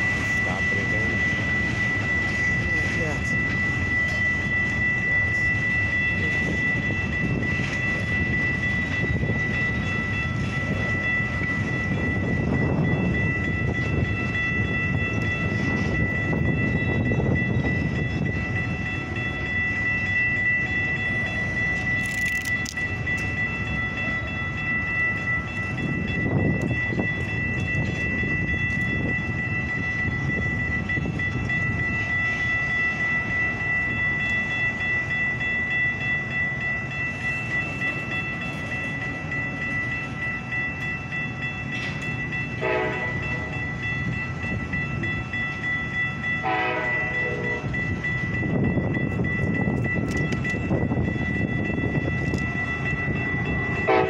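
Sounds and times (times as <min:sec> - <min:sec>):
steady high-pitched tone: 0:00.0 - 0:54.0
train wheels clattering on rails: 0:00.0 - 0:54.0.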